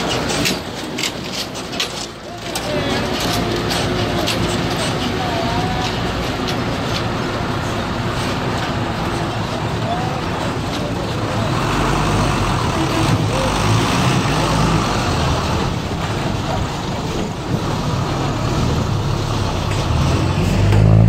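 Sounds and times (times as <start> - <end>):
bus diesel engine running: 0.0 - 21.0
second bus engine approaching: 0.0 - 21.0
tyre and road noise: 0.0 - 21.0.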